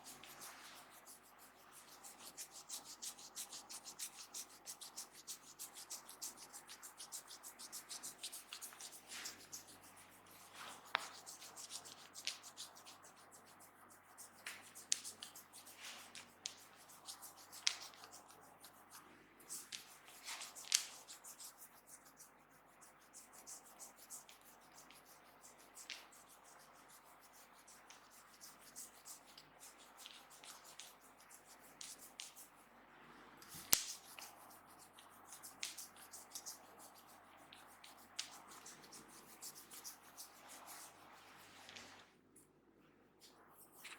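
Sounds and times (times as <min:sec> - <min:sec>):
hands rubbing over skin: 0:00.0 - 0:32.6, 0:33.6 - 0:42.0, 0:43.3 - 0:43.9.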